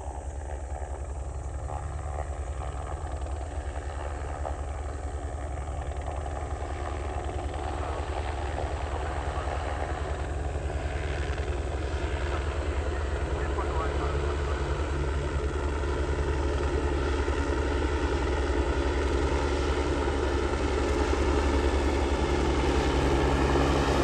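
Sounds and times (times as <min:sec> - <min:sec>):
helicopter rotor beating: 0:00.0 - 0:24.0.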